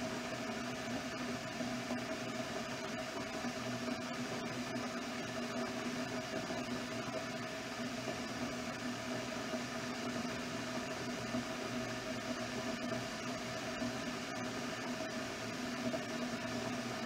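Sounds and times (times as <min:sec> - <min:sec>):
electric kettle hissing: 0:00.0 - 0:17.0.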